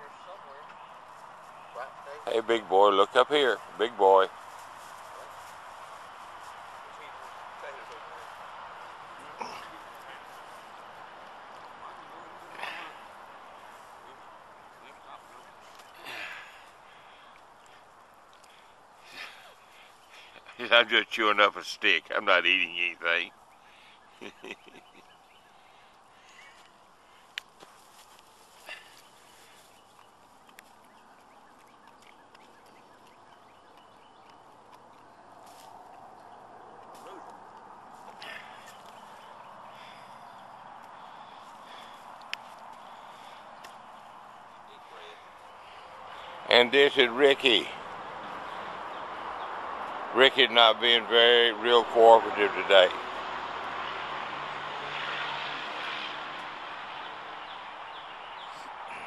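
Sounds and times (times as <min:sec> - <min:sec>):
distant vehicle passing: 0:00.0 - 0:59.0
faint outdoor ambience: 0:00.0 - 0:59.0.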